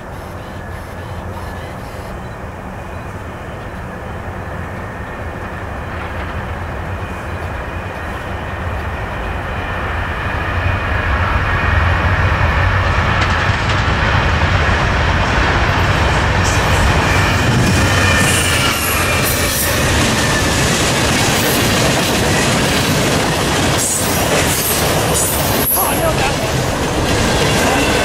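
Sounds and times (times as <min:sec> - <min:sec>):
diesel locomotive approaching: 0:00.0 - 0:28.0
train wheels rumbling: 0:00.0 - 0:28.0.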